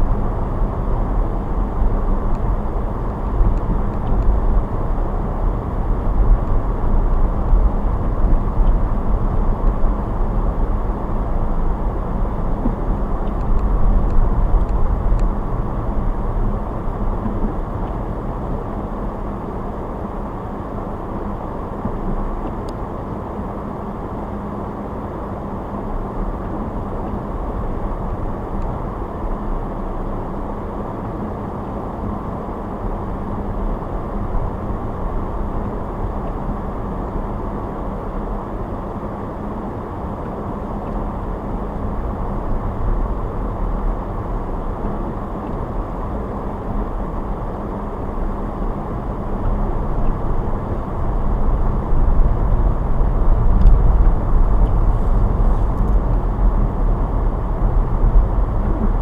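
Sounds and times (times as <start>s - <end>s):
tyres and engine rumble: 0.0s - 59.0s.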